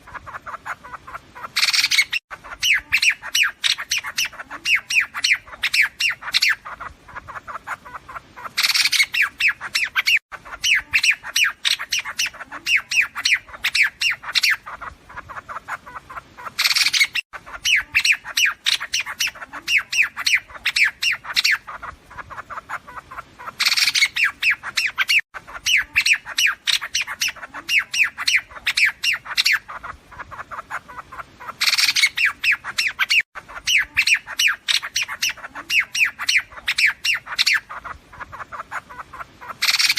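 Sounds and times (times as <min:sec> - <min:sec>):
bird harsh chattering calls: 0:00.0 - 0:39.9.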